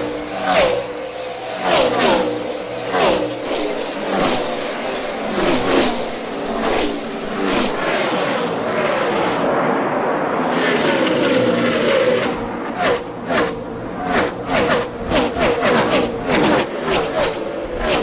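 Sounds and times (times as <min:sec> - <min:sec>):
race car engines passing: 0:00.0 - 0:18.0.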